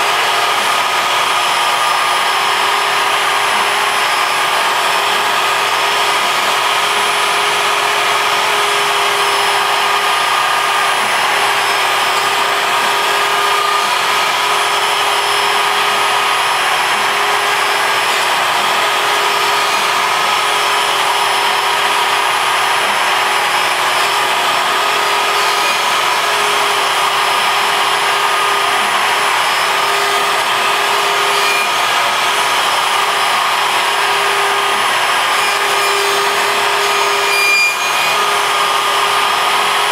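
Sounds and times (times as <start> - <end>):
router spindle cutting wood: 0.0 - 39.9
vacuum running: 0.0 - 39.9.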